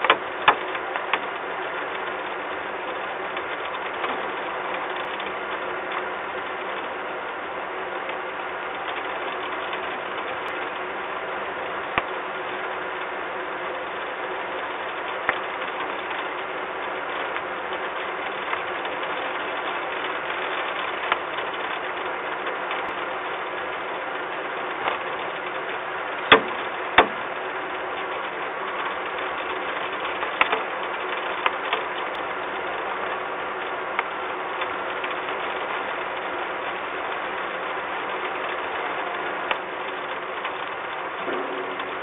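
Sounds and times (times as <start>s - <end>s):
faint machine hum: 0.0s - 42.0s.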